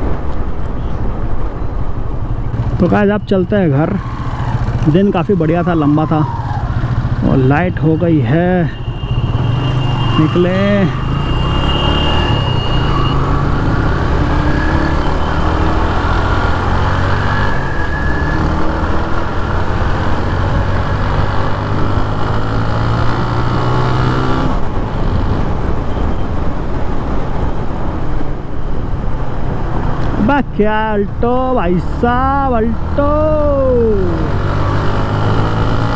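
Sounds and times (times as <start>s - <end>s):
motorcycle engine accelerating: 1.8s - 27.8s, 31.7s - 35.9s.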